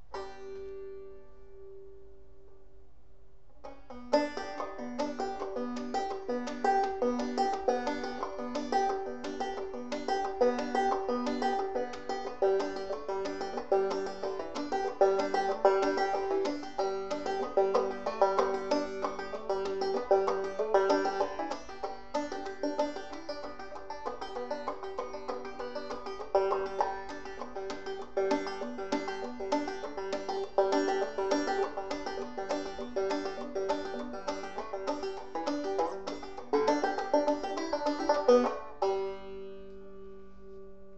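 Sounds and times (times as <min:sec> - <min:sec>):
banjo played clawhammer style: 0:00.0 - 0:01.7, 0:03.6 - 0:40.6.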